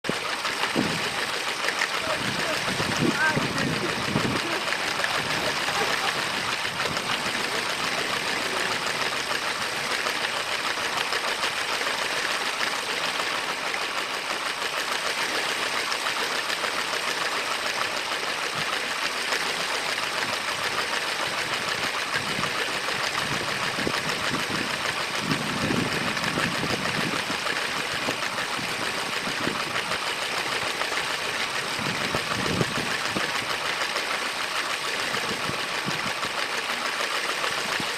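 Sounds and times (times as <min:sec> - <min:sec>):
toy train rattling on track: 0:00.1 - 0:37.9.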